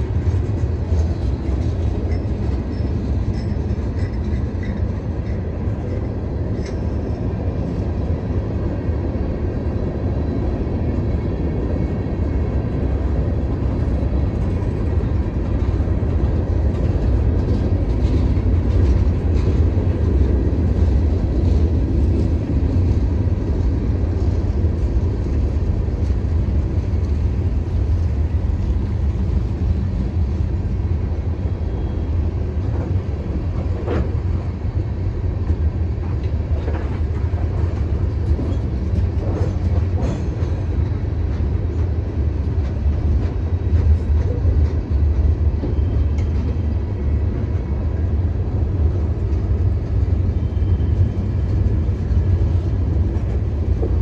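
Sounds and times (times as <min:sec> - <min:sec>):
freight train rolling past: 0:00.0 - 0:54.0
steel wheels rumbling on rails: 0:00.0 - 0:54.0.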